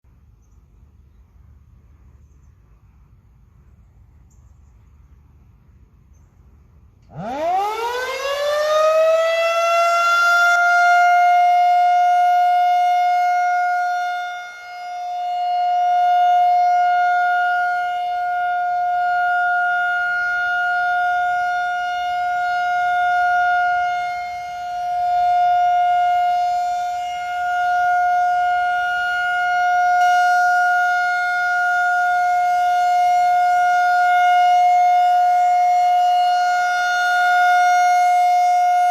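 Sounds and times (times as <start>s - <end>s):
warning siren: 7.0s - 38.9s.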